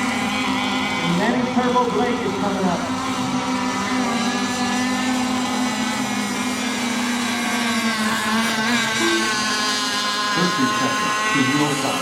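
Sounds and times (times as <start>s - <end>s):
model boat engines buzzing: 0.0s - 12.0s.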